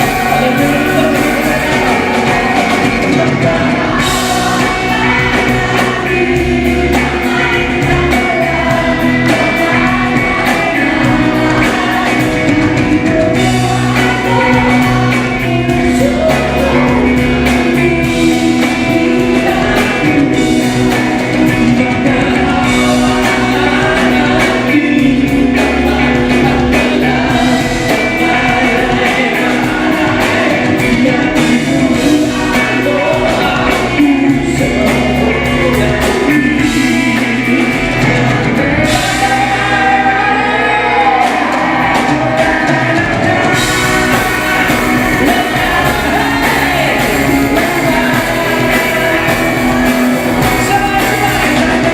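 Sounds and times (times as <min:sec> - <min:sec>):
live band music: 0:00.0 - 0:51.9
person singing: 0:00.0 - 0:51.9.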